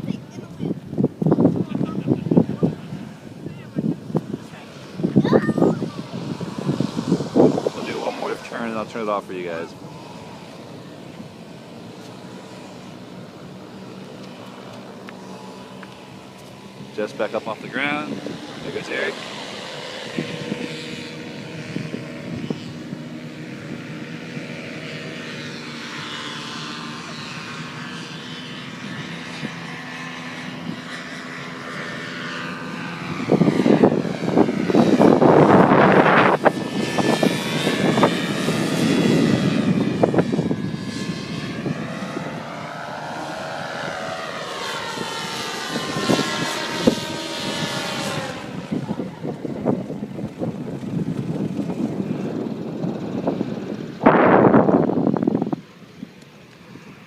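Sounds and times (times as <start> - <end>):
paramotor engines droning: 0.0 - 57.0.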